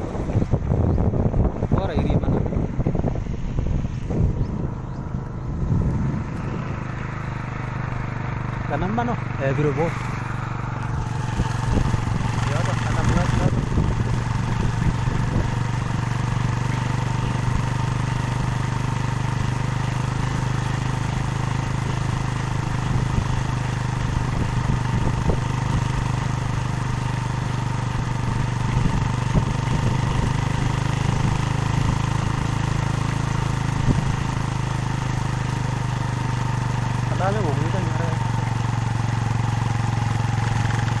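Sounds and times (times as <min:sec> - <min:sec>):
engine running steadily: 0:00.0 - 0:41.0.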